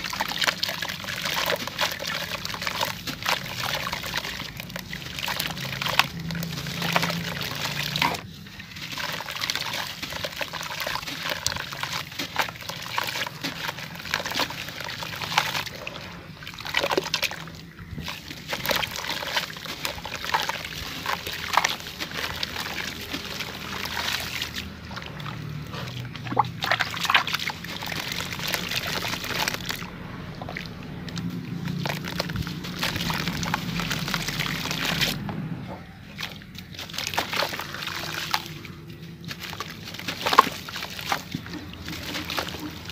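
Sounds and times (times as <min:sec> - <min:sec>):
crumbling crackles and splashes: 0:00.0 - 0:35.4, 0:36.0 - 0:42.9
wet grit pattering into water: 0:00.0 - 0:35.4, 0:36.0 - 0:42.9
water sloshing: 0:00.0 - 0:42.9.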